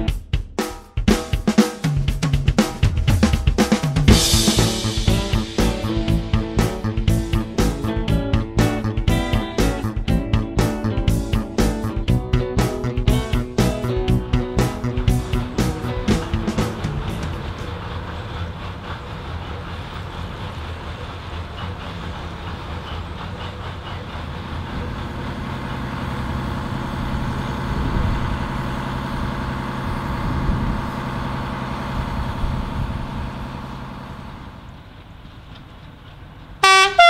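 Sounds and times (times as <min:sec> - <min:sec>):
locomotive diesel engine running: 0:02.8 - 0:37.0.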